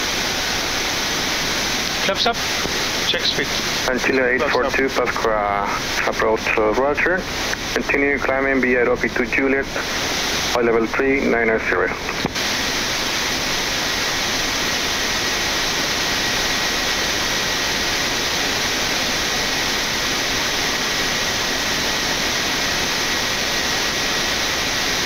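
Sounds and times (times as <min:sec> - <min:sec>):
air rushing over cockpit: 0:00.0 - 0:25.0
faint high whine: 0:00.0 - 0:25.0.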